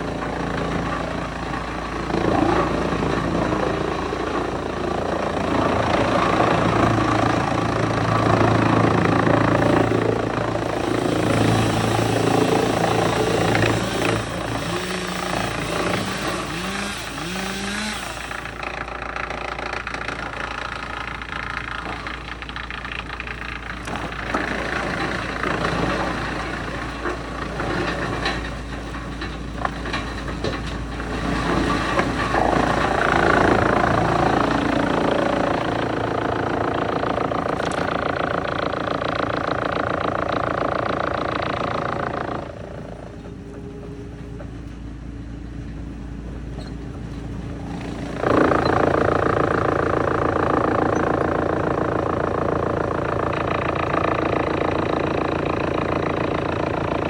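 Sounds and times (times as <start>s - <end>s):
wood chipper running: 0.0s - 57.0s.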